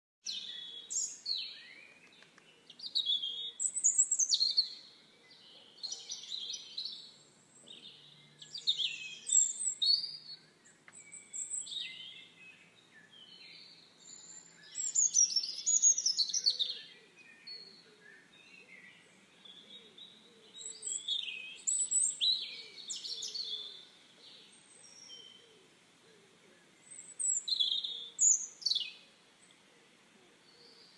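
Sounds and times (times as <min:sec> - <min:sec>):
songbirds chirping and trilling: 0:00.2 - 0:30.9.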